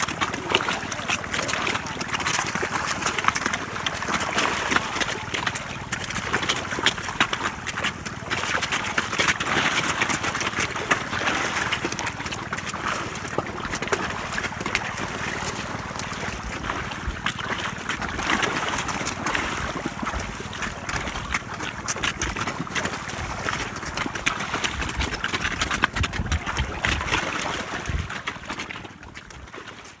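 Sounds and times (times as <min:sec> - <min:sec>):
water splashing and churning: 0:00.0 - 0:30.0.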